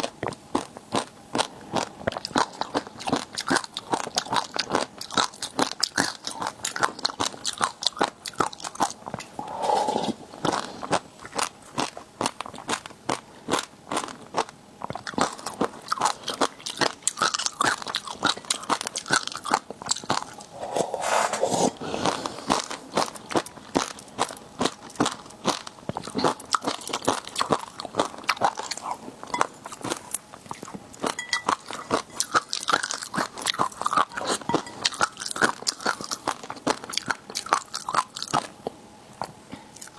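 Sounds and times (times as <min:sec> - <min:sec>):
crunching and chewing: 0:00.0 - 0:20.8, 0:21.8 - 0:39.9.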